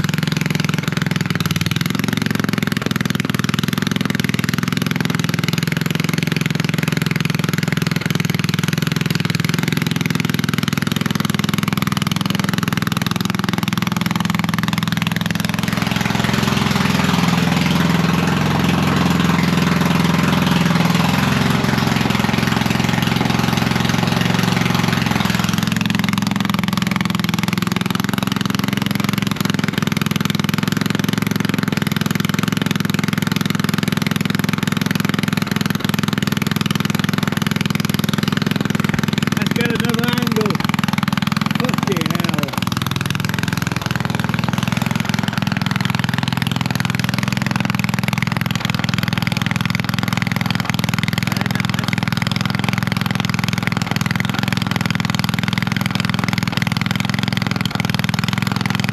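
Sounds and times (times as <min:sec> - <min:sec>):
lawn mower engine running: 0:00.0 - 0:58.9.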